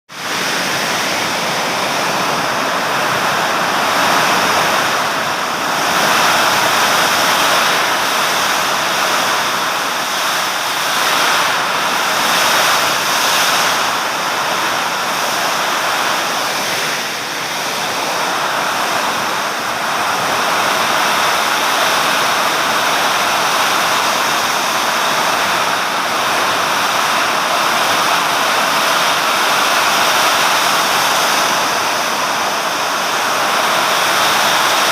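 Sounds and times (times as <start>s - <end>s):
heavy rain: 0.1s - 34.9s
wind: 0.1s - 34.9s.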